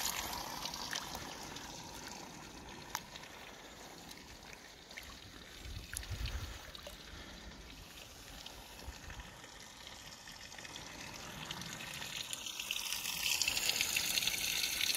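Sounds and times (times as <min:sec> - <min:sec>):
shallow river water flowing: 0:00.0 - 0:14.9.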